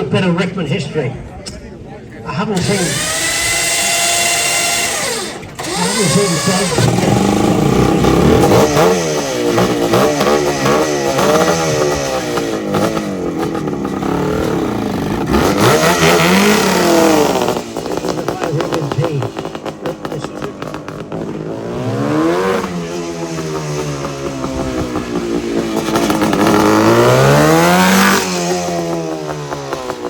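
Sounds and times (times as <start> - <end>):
motorcycle engine revving: 2.6 - 30.0.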